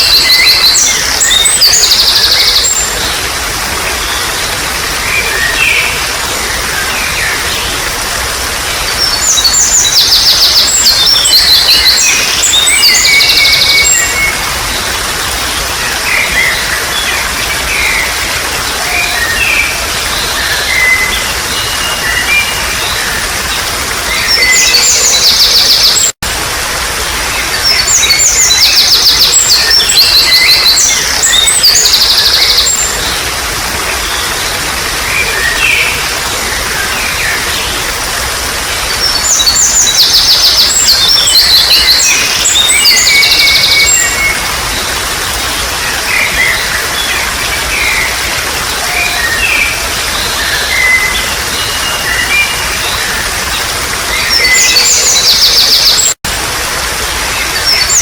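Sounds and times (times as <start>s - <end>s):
birds trilling song: 0.0s - 26.2s, 26.8s - 56.2s, 56.9s - 58.0s
trickle of running water: 0.0s - 58.0s.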